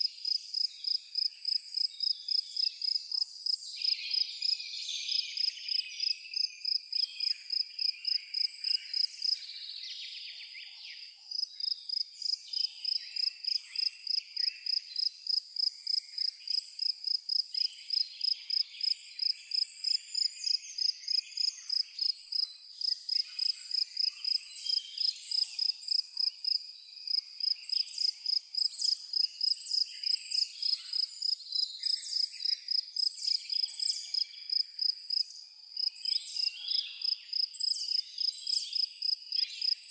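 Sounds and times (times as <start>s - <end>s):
cricket chirping: 0.0s - 4.6s, 5.4s - 9.4s, 11.3s - 39.9s.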